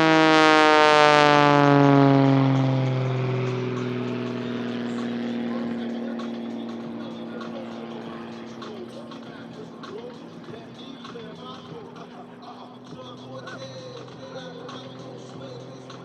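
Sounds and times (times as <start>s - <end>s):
aircraft flying past low: 0.0s - 16.0s.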